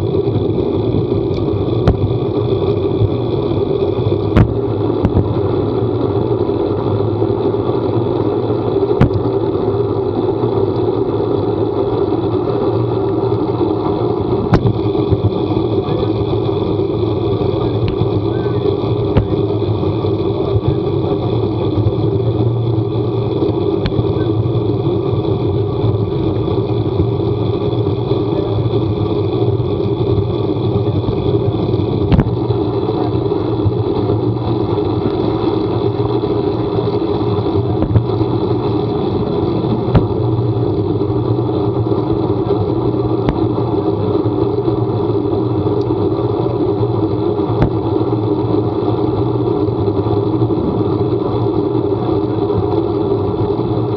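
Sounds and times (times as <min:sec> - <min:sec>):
vehicle engine and road noise: 0:00.0 - 0:53.9.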